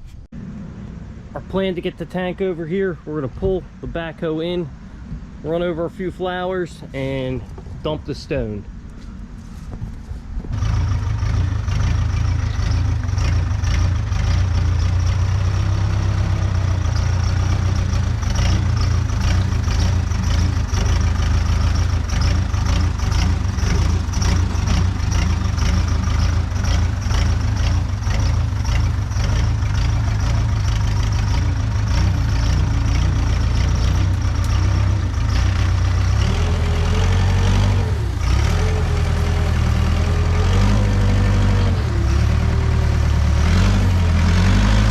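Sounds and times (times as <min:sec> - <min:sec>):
diesel backhoe engine running: 0:00.0 - 0:44.9.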